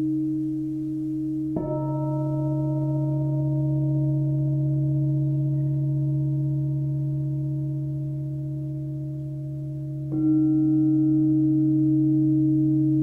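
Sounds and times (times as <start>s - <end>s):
singing bowls ringing: 0.0s - 13.0s.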